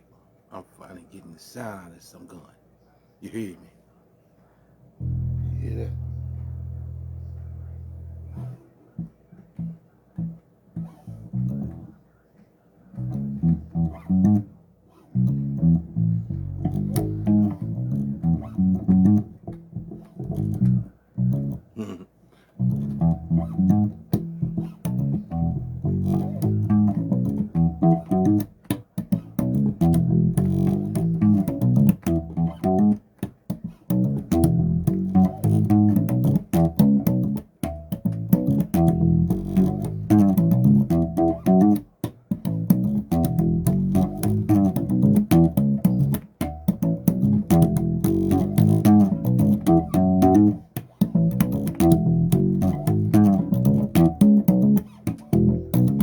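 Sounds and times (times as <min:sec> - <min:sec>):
bass guitar plucking: 0:05.0 - 0:12.0, 0:13.0 - 0:14.5, 0:15.1 - 0:21.9, 0:22.6 - 0:56.0.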